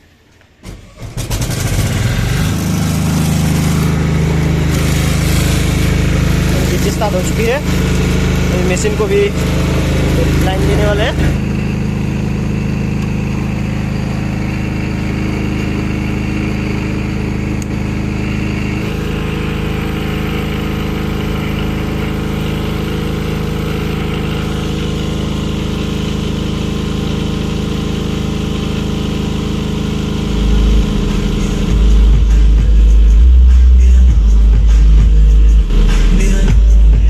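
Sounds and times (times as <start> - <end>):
diesel generator running: 0.0 - 37.0
deep bass from speakers: 1.3 - 37.0.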